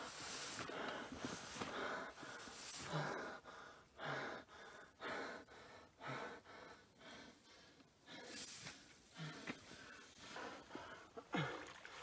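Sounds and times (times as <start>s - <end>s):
person breathing heavily: 0.0s - 11.8s.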